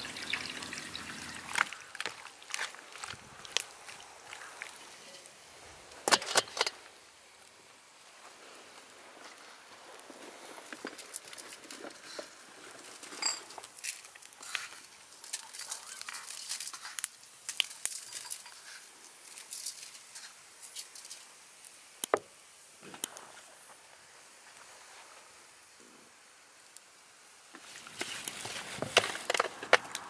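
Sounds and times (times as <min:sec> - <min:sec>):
salt pattering on eels: 0:00.0 - 0:23.4, 0:26.6 - 0:30.0.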